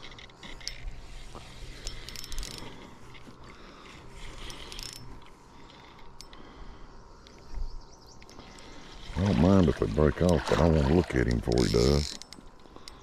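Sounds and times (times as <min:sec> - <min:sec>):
fishing reel whirring and clicking: 0:00.0 - 0:07.6, 0:08.2 - 0:13.0.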